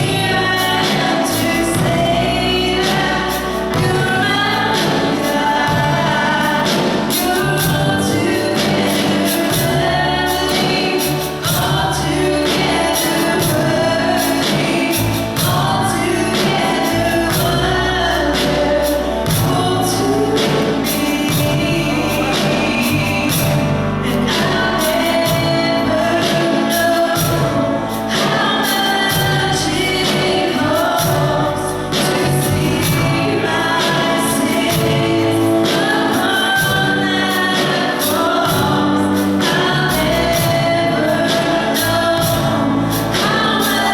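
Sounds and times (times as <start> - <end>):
band beat and bass line: 0.0 - 43.9
gospel singing: 0.0 - 43.9.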